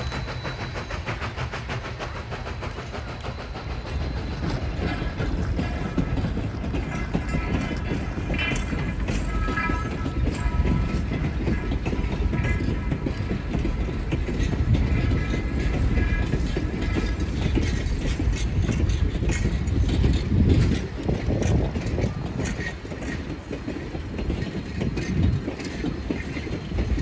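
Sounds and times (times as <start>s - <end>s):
train wheels rumbling on track: 0.0s - 27.0s
wheels clicking over rail joints: 0.0s - 27.0s.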